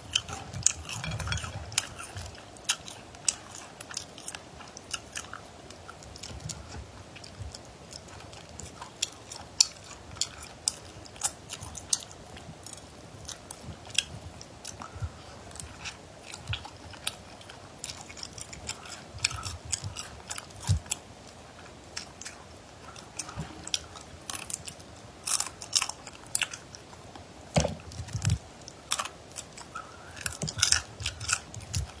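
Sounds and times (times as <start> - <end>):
close-up chewing: 0.0 - 32.0.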